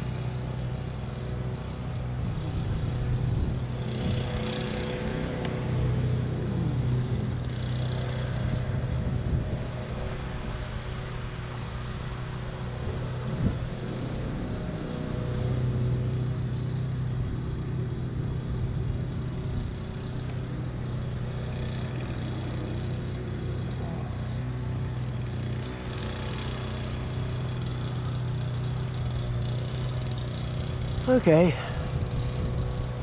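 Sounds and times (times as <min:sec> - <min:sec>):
drone propellers humming: 0:00.0 - 0:33.0.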